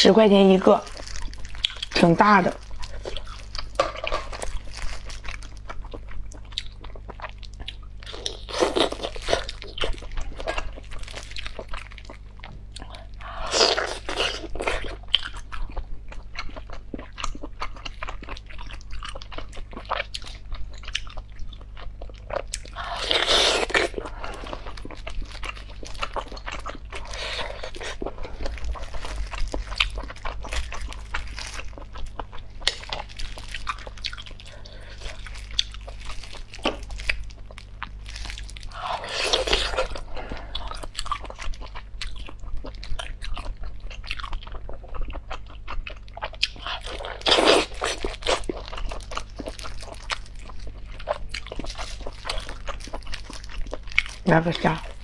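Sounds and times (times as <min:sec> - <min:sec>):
biting and chewing mouth sounds: 0:00.8 - 0:55.0.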